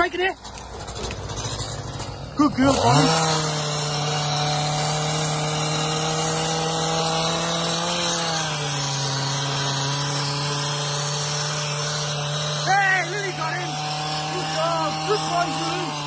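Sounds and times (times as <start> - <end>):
engine running with low hum: 0.0 - 16.0.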